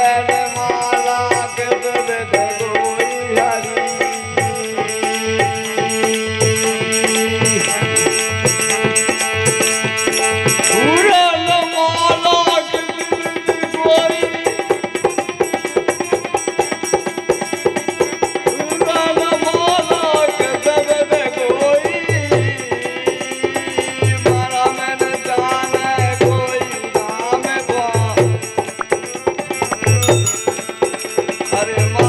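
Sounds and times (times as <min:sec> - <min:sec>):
man singing: 0:00.0 - 0:08.8, 0:10.6 - 0:16.8, 0:18.4 - 0:32.0
harmonium: 0:00.0 - 0:32.0
jingling hand percussion: 0:00.0 - 0:32.0.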